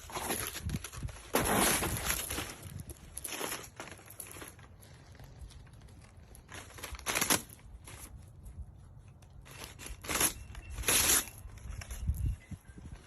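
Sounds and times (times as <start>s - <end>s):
rustling crinkling handling noise: 0.0s - 13.0s.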